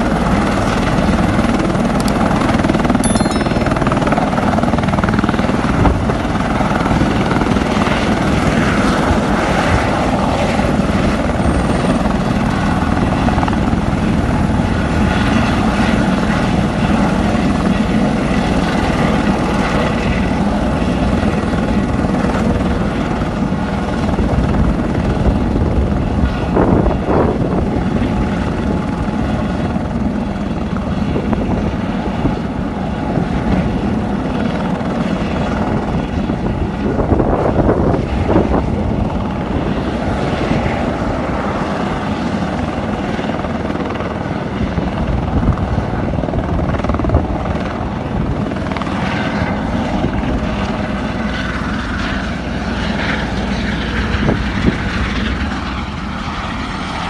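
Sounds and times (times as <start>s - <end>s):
helicopter turbine whine and rotor beat: 0.0s - 57.0s.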